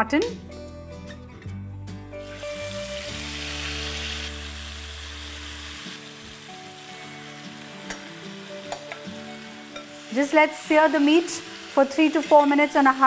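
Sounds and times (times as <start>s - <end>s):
meat sizzling in hot fat: 2.2s - 13.0s.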